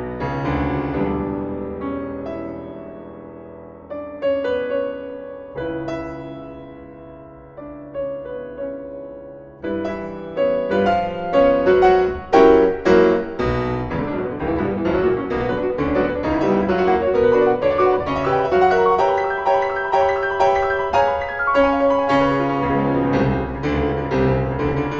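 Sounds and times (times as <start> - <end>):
piano music: 0.0 - 24.9.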